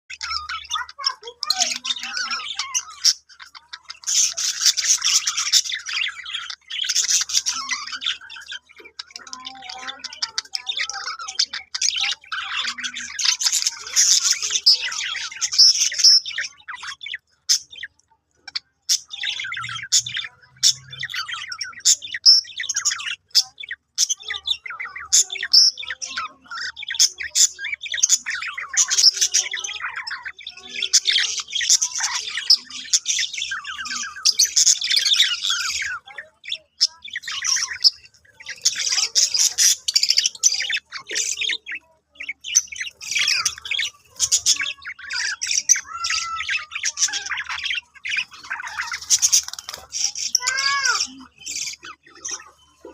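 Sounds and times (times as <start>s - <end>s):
budgerigars chattering and warbling: 0.1s - 52.9s.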